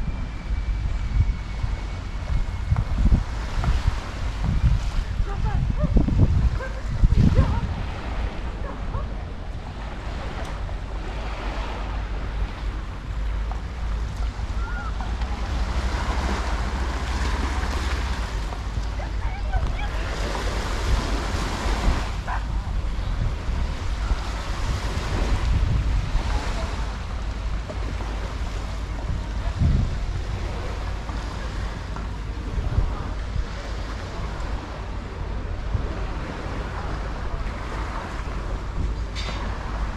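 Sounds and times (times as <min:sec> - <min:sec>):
wind rumbling on microphone: 0:00.0 - 0:39.9
sea waves washing onto beach: 0:01.6 - 0:39.9.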